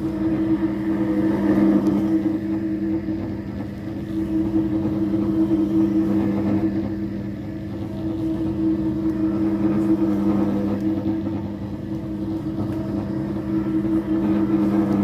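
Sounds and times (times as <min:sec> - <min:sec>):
floor polisher motor hum: 0:00.0 - 0:15.0.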